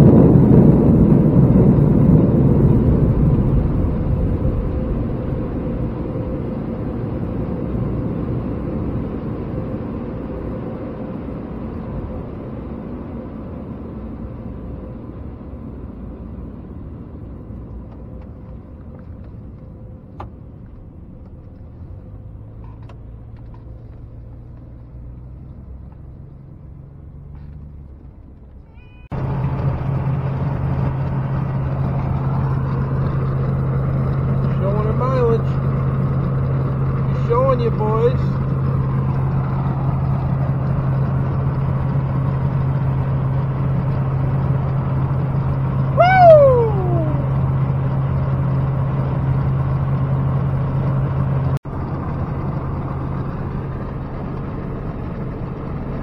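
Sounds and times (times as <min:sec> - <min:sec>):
loud rumbling in vehicle cab: 0:00.0 - 0:56.0
vehicle cruising on highway: 0:00.0 - 0:56.0.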